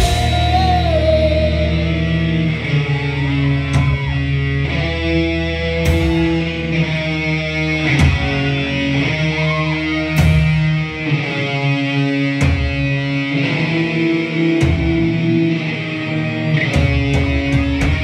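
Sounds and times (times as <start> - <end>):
metal band playing: 0.0 - 18.0.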